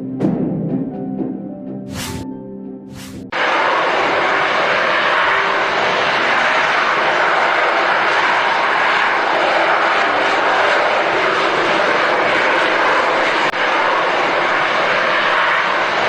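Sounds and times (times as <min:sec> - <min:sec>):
jet engine roar: 0:02.9 - 0:16.0.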